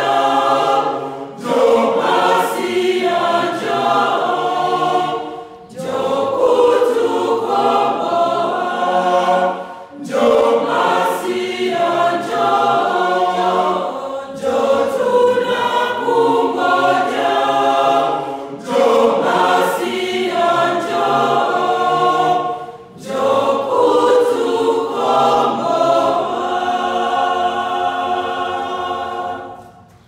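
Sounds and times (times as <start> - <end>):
mixed choir singing: 0.0 - 30.0.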